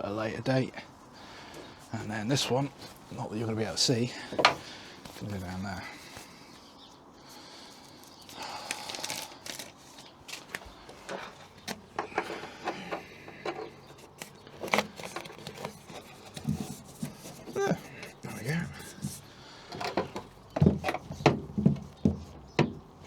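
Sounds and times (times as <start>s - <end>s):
insulation rustling and crackling: 0.0s - 23.0s.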